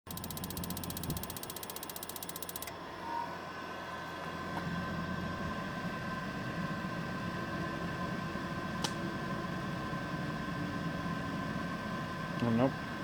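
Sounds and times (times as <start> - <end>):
steady hum: 0.1 - 13.0.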